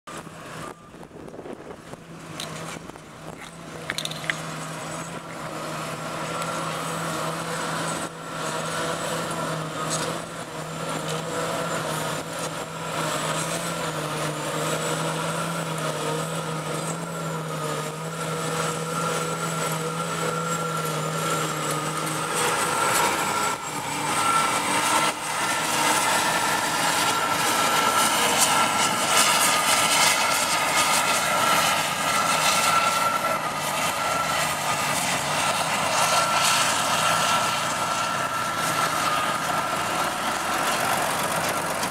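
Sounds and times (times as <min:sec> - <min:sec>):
harvester machine drone: 0:00.1 - 0:41.9
thin high machine whine: 0:00.1 - 0:41.9.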